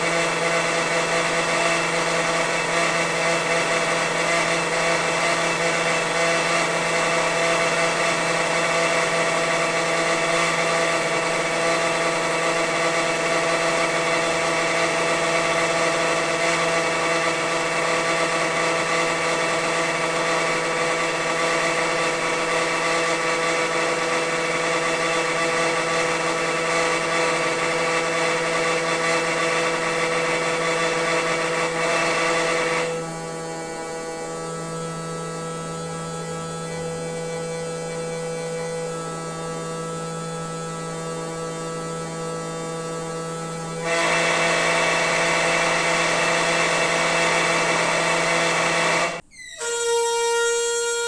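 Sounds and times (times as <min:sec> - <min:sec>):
water pipe rushing and whining: 0:00.0 - 0:49.2.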